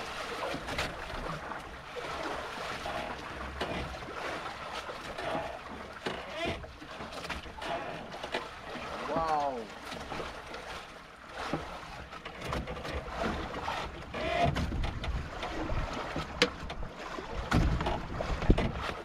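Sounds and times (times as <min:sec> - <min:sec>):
sharp knocks on boat: 0:00.0 - 0:19.0
water lapping at boat hull: 0:00.0 - 0:19.0.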